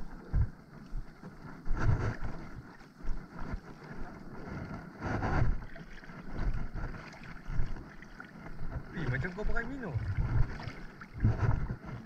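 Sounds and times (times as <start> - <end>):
water sloshing around body: 0.0 - 12.0
wind buffeting microphone: 0.0 - 12.0.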